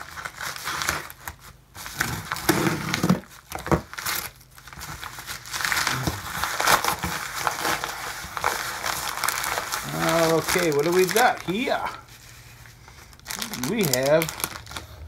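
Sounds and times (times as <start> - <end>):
paper mailer rustling: 0.0 - 15.0.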